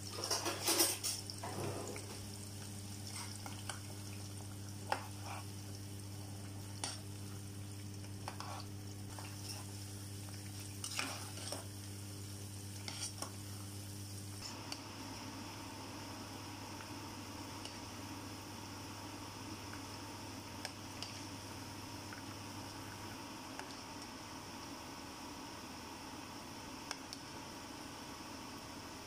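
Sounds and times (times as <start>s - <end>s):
onions sizzling in oil: 0.0s - 24.8s
steady low hum: 0.0s - 29.0s.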